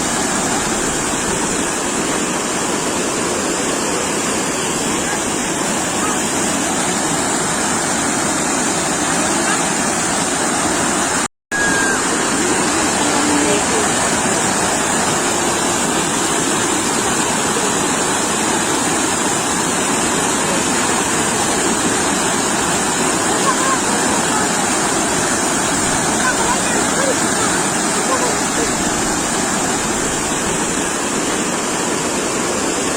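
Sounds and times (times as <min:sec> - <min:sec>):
sea surf washing on shore: 0:00.0 - 0:32.9.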